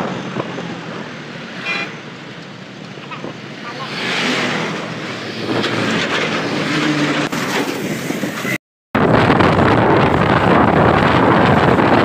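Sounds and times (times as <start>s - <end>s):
truck traffic: 0.0s - 12.0s
wind rushing over microphone: 0.0s - 12.0s.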